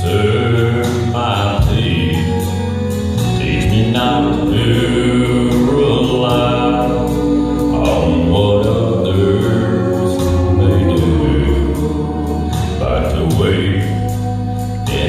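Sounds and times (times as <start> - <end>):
group singing gospel: 0.0 - 2.2, 3.4 - 14.3
steady bass line: 0.0 - 15.0.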